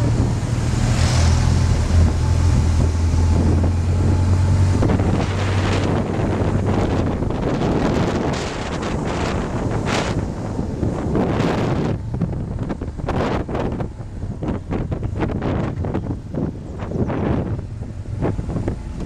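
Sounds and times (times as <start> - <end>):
vehicle engine droning: 0.0 - 19.0
wind buffeting microphone: 0.0 - 19.0.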